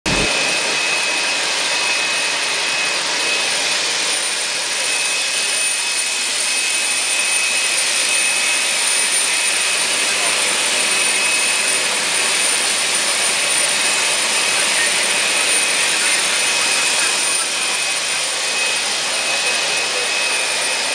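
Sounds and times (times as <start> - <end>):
jet turbine whistling hiss: 0.1 - 20.9.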